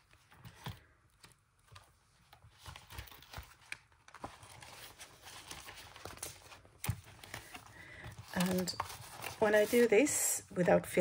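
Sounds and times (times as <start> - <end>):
paper rustling: 0.0 - 10.2.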